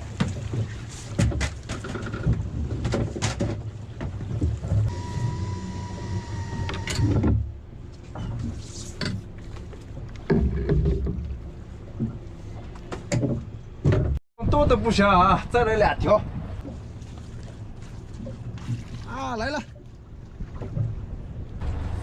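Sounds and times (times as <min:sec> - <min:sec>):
low steady rumble: 0:03.7 - 0:22.0.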